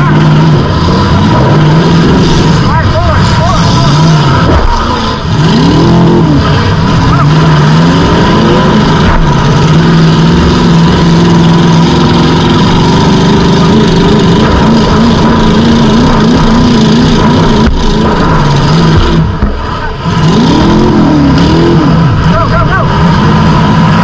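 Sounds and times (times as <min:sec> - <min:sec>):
loud car engine revving: 0:00.0 - 0:24.0.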